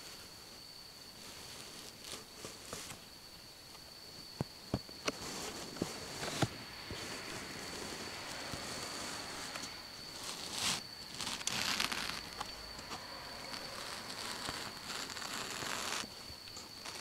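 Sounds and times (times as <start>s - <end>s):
faint high-pitched whine: 0.0s - 17.0s
steady hiss: 0.0s - 17.0s
rustling and scraping handling noise: 1.1s - 3.1s, 4.1s - 17.0s.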